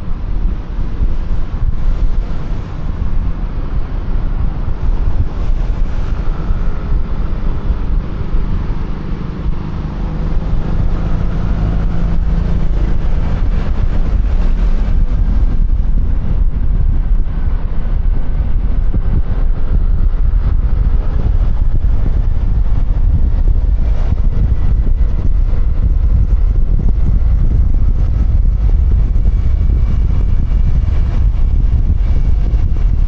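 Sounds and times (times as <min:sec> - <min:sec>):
wind buffeting a microphone: 0:00.0 - 0:33.0.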